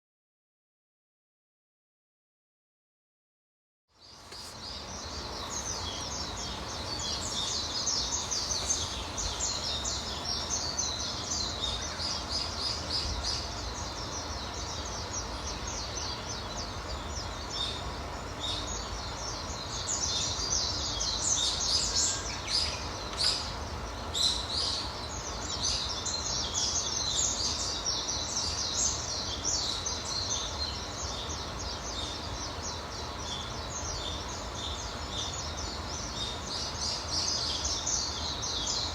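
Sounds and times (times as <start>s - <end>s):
songbirds chirping and singing: 4.1s - 38.9s.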